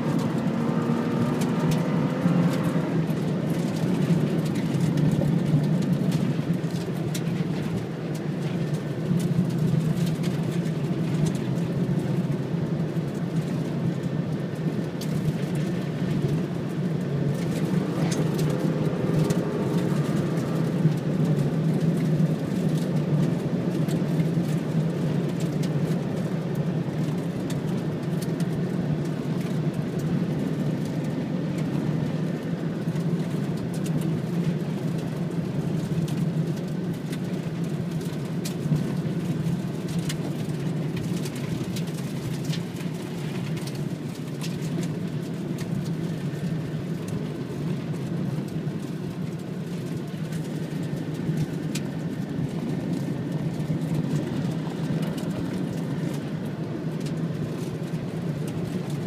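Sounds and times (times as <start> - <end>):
engine and tyres rumbling on dirt: 0.0 - 59.0.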